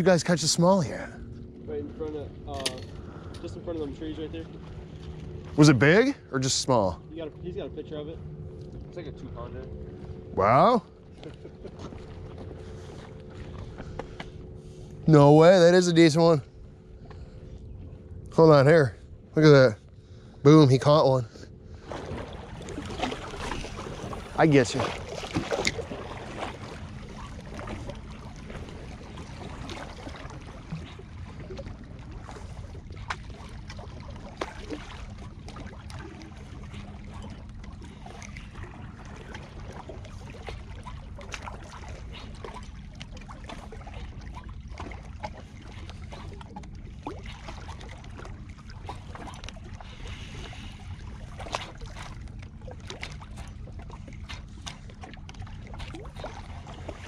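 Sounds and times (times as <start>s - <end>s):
lake water at rocky shore: 0.0s - 57.0s
low rumble of wind: 0.0s - 57.0s.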